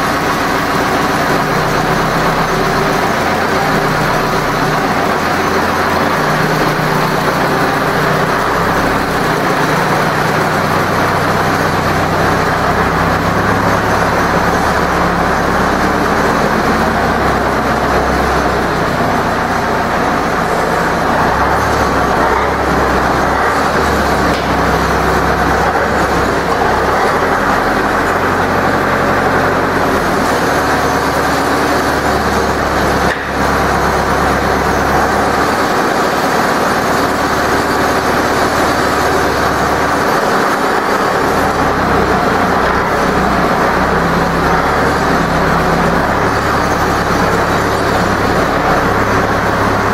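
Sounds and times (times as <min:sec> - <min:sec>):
tractor diesel engine revving: 0:00.0 - 0:49.9.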